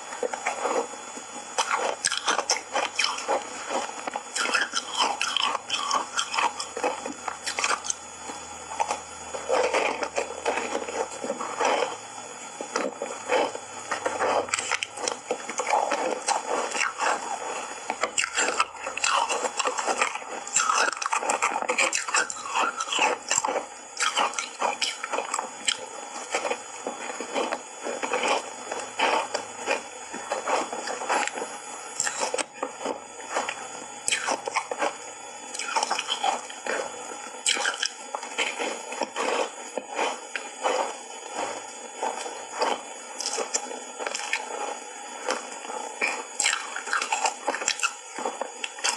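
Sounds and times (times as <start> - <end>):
ice bars crunching being chewed: 0.0 - 48.9.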